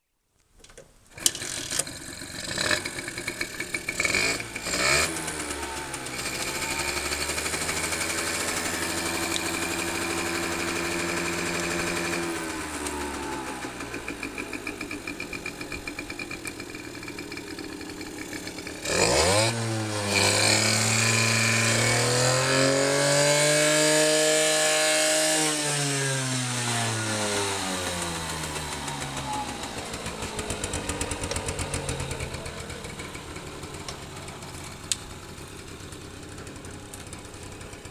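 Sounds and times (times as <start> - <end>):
small motorcycle engine revving: 1.2 - 37.9.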